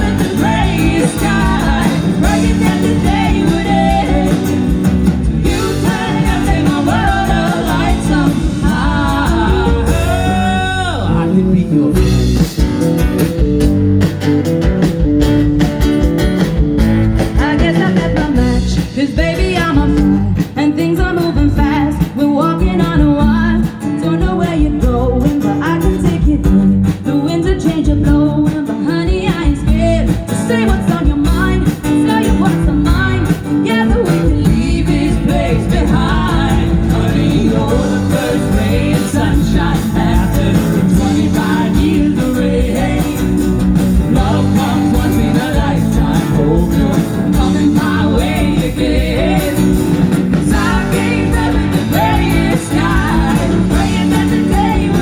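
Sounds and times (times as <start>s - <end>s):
guitars: 0.0s - 55.0s
live rock band playing: 0.0s - 55.0s
melodic line over band: 0.0s - 55.0s.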